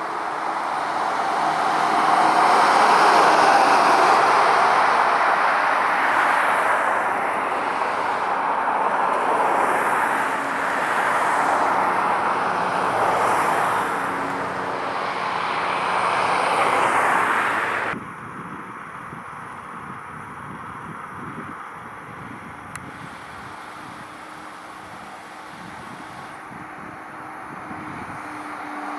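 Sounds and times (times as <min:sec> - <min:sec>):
road vehicle rushing: 0:00.0 - 0:18.0, 0:22.5 - 0:28.9
quiet street background: 0:00.0 - 0:28.9.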